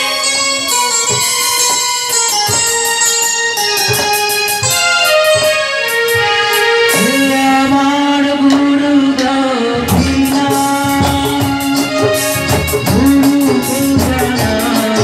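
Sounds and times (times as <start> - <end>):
hand drum beats: 0.0 - 15.0
keyboard melody: 0.0 - 15.0.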